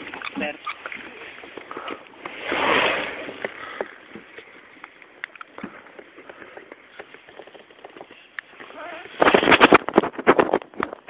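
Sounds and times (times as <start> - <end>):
river water splashing against raft: 0.0 - 11.0
water lapping and gurgling: 0.0 - 11.0.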